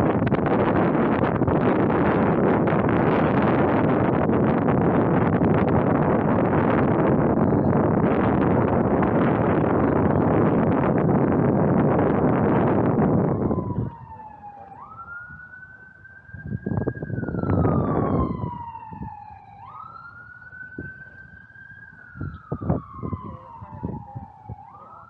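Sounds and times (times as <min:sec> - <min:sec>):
emergency siren wailing: 0:00.0 - 0:25.0.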